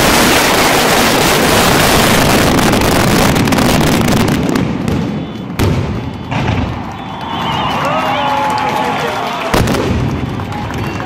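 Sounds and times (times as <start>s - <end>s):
fireworks bursting: 0.0s - 7.8s, 9.5s - 11.0s.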